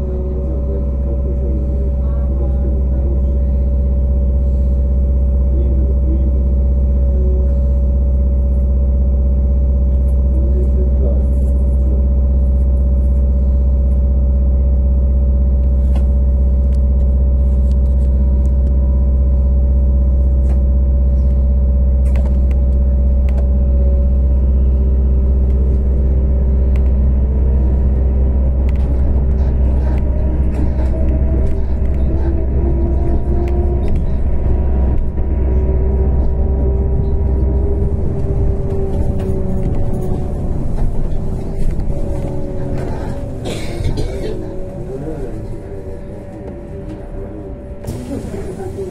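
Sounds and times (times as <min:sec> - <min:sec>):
traction drive whine: 0:00.0 - 0:48.9.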